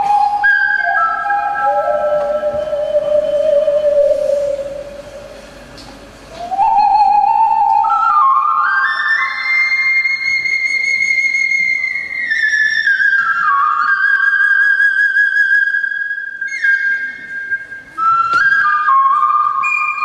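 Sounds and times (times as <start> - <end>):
ocarina slow melody: 0.0 - 20.0.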